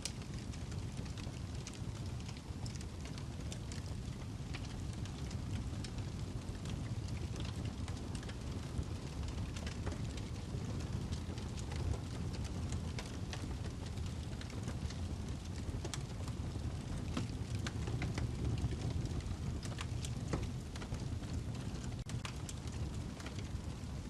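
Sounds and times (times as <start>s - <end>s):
burning log crackling and popping: 0.0s - 24.0s
low rumble of flame: 0.0s - 24.0s.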